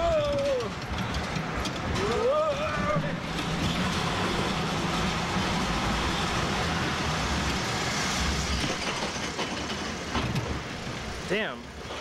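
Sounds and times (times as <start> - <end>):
ride car rumbling on track: 0.0 - 12.0.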